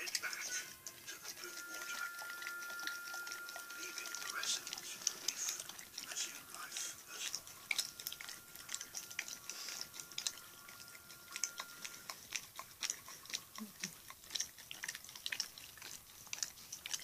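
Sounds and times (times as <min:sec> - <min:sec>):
dog licking and smacking: 0:00.0 - 0:17.0.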